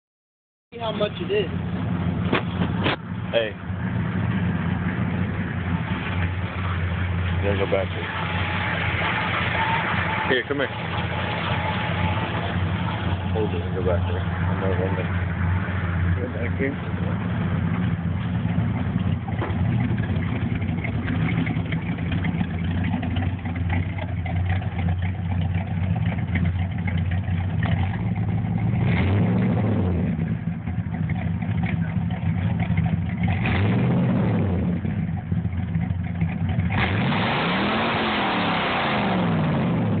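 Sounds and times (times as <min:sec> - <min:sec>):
truck engine idling and revving: 0:00.7 - 0:40.0.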